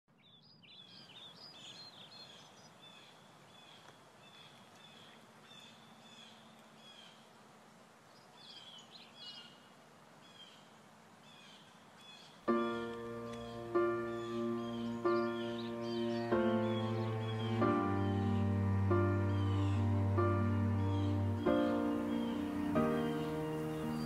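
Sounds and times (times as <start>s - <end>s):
birds chirping: 0.1s - 24.0s
low steady hiss: 0.1s - 24.0s.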